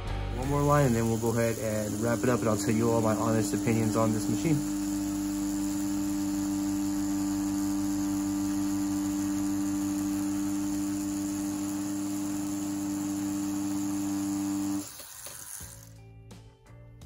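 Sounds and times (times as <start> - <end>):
tattoo pen humming: 0.1 - 16.1.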